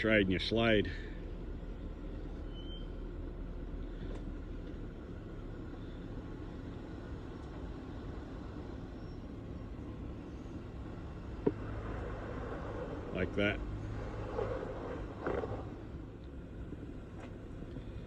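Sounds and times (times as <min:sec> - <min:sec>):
engine running low: 0:00.0 - 0:18.0.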